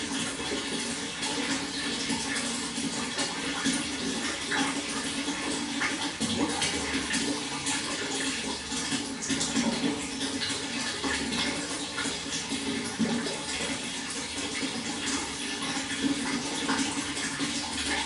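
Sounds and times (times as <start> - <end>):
small splashes and trickles: 0.0 - 18.0
water flowing: 0.0 - 18.0.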